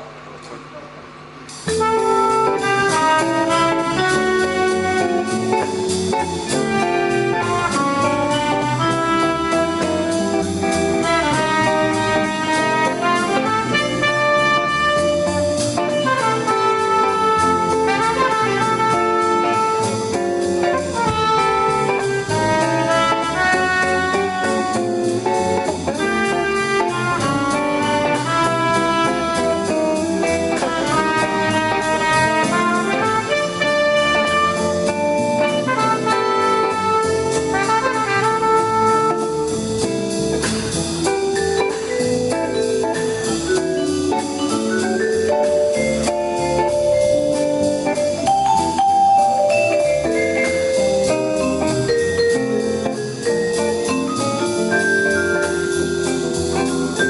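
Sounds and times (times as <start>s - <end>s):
small jazz band playing: 0.0s - 57.0s
melodic lead line: 1.6s - 57.0s.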